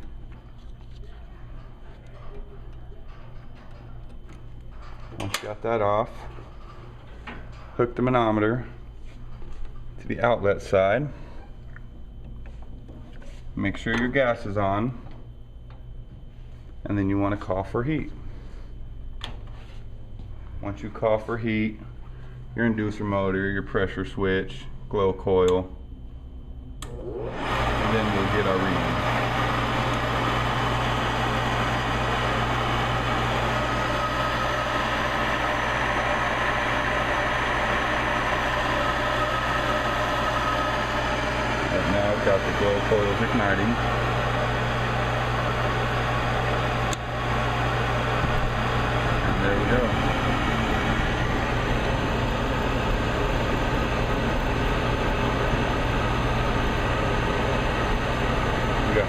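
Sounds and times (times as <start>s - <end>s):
furnace inducer motor humming: 0.0s - 59.0s.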